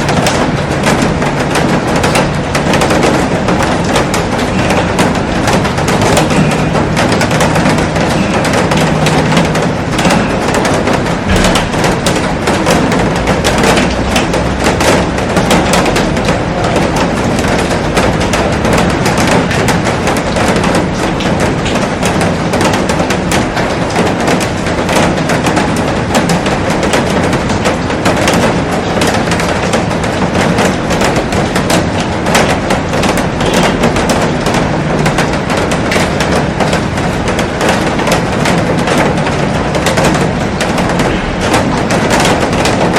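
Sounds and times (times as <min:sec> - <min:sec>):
raindrops drumming on glass: 0:00.0 - 0:42.9.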